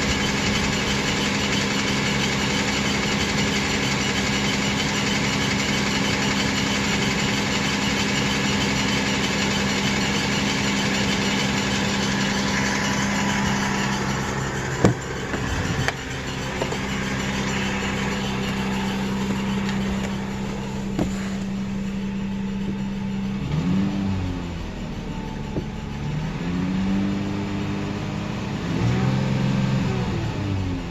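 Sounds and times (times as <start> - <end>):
engine squeak: 0.0 - 28.1
engine knock and rattle: 0.0 - 30.9
truck engine idling: 0.0 - 30.9.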